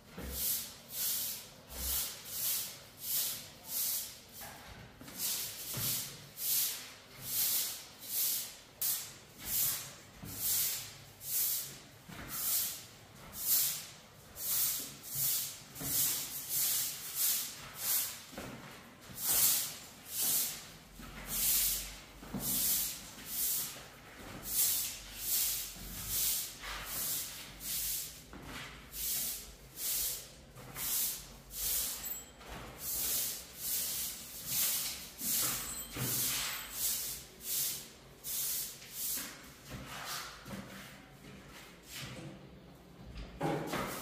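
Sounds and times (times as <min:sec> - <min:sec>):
broom sweeping concrete floor: 0:00.0 - 0:42.7, 0:43.6 - 0:44.0.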